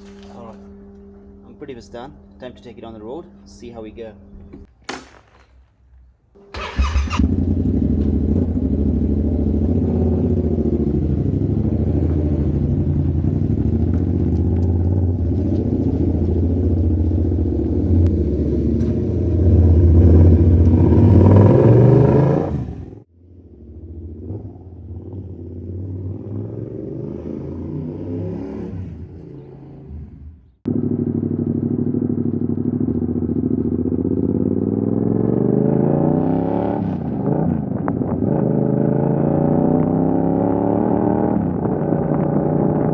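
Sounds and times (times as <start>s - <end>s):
motorcycle engine revving: 6.4s - 42.9s.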